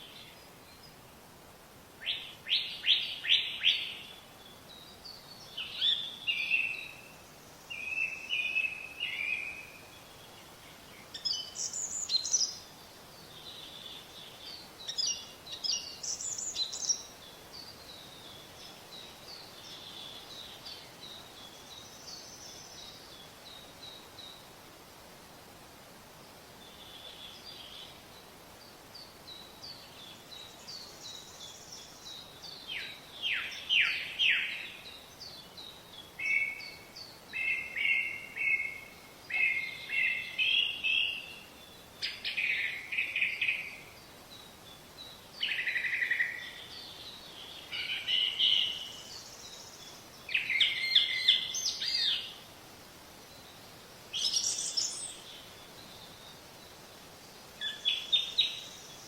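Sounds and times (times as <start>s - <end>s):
faint steady hiss: 0.0s - 59.0s
songbirds chirping and whistling: 2.0s - 24.5s, 26.7s - 52.5s, 53.3s - 59.0s.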